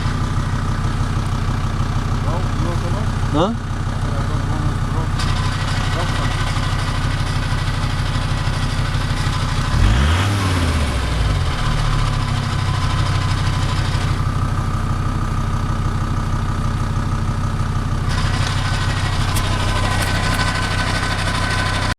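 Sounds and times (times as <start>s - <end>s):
van engine idling and revving: 0.0s - 21.9s.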